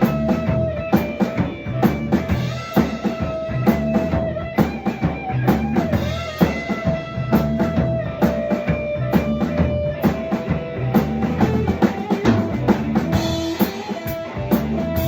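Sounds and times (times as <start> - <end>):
bass drum: 0.0 - 15.0
guitar: 0.0 - 15.0
rock drum beat: 0.0 - 15.0.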